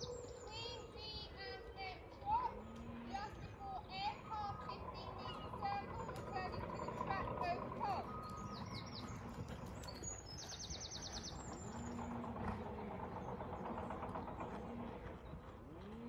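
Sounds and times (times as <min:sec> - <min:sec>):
small birds chirping and trilling: 0:00.0 - 0:16.0
wind rumble: 0:00.0 - 0:16.0.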